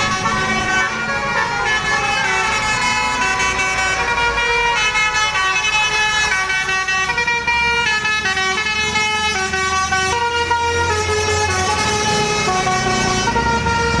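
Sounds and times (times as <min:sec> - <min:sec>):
musical bus air horns: 0:00.0 - 0:14.0.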